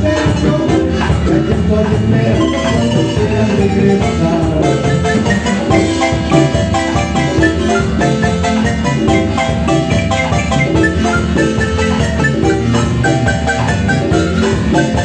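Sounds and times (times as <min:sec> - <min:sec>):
marimba playing lively tune: 0:00.0 - 0:15.0.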